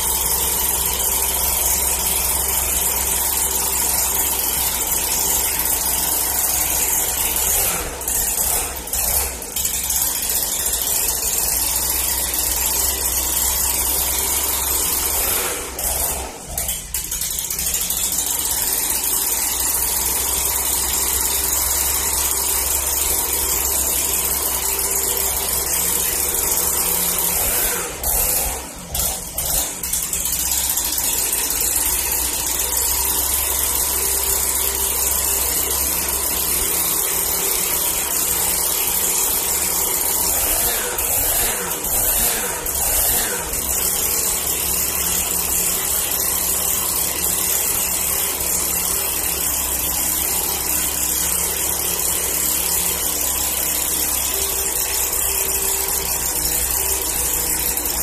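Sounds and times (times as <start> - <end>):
leaf blower engine running: 0.0 - 58.0.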